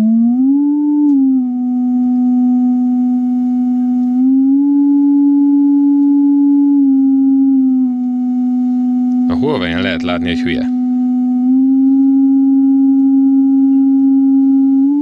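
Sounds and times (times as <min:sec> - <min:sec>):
sine-wave tone stepping in pitch: 0:00.0 - 0:15.0.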